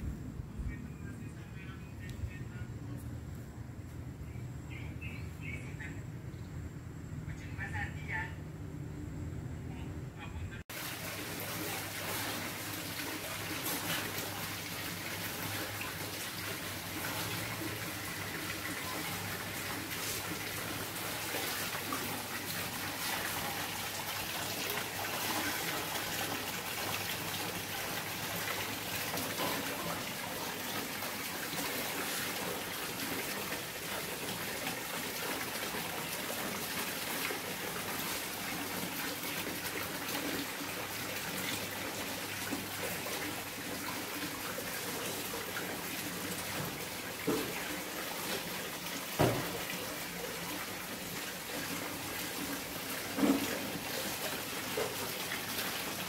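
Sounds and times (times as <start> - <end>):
water falling into pond: 10.7 - 56.0.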